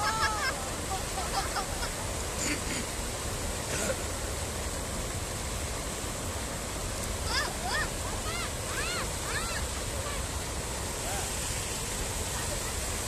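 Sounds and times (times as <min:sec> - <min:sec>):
water rushing over a dam: 0:00.0 - 0:13.0.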